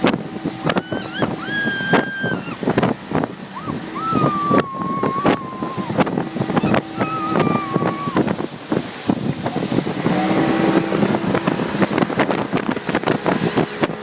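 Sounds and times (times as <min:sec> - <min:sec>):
boat engine running: 0:00.0 - 0:14.0
wind buffeting microphone: 0:00.0 - 0:14.0.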